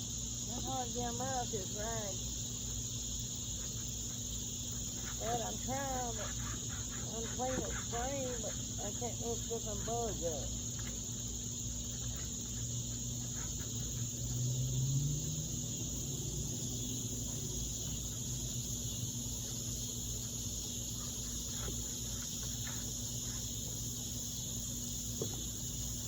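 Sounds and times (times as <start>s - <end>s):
insects chorus: 0.0s - 26.0s
low steady hum: 0.0s - 26.0s.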